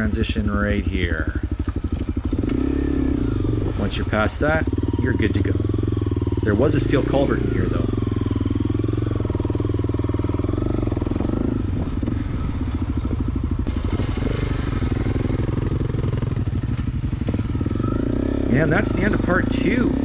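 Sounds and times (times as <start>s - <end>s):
motorcycle engine running at low revs: 0.0s - 20.0s.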